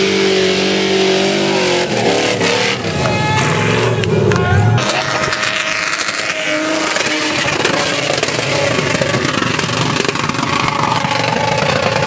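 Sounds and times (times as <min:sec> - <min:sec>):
off-road vehicle engines revving: 0:00.0 - 0:12.0.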